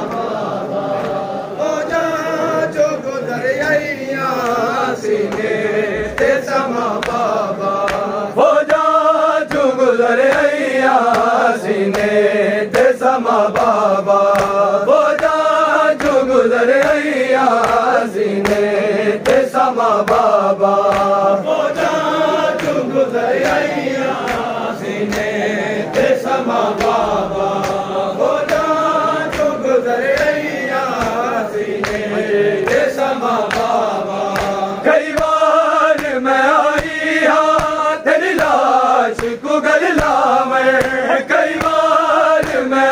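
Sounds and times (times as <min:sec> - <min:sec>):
men chanting a lament: 0:00.0 - 0:42.9
rhythmic chest-beating strikes: 0:03.6 - 0:42.9.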